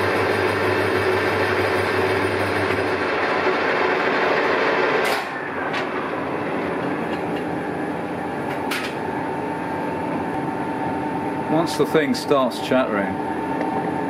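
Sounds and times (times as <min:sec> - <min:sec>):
lathe running: 0:00.0 - 0:12.8.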